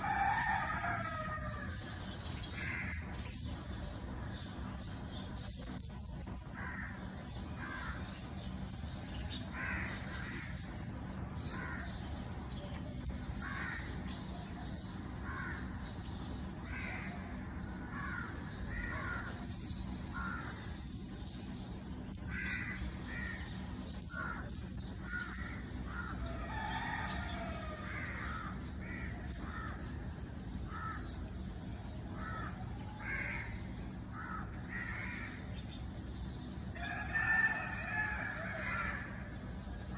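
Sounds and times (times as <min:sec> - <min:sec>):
birds calling: 0:00.0 - 0:39.9
steady low rumble: 0:00.0 - 0:39.9.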